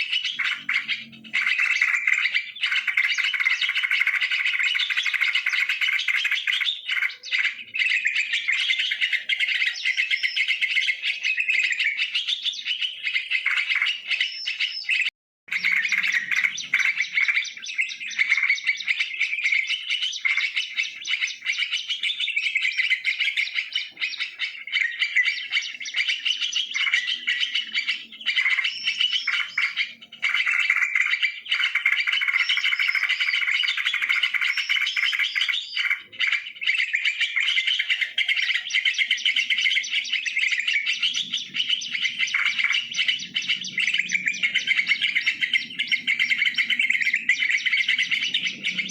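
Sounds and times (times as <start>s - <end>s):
birds chattering and chirping: 0.0s - 48.9s.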